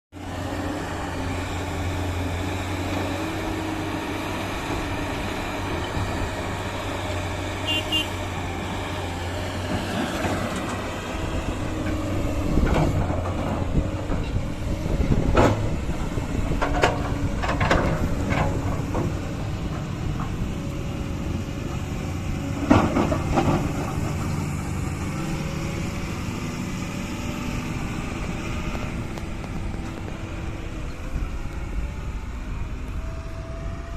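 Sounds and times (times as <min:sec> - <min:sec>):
digging machinery diesel engines: 0:00.2 - 0:33.9.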